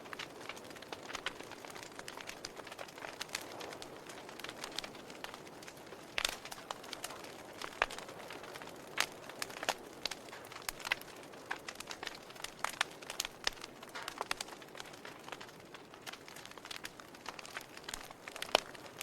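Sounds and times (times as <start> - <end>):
burning logs crackling and popping: 0.0 - 19.0.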